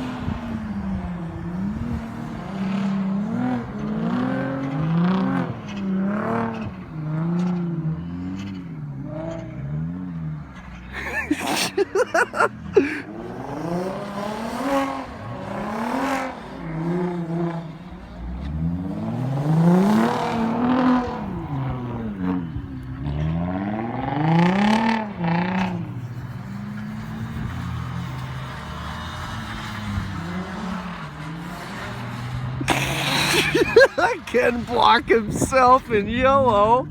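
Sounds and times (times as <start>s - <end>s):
car engine revving: 0.0s - 35.7s.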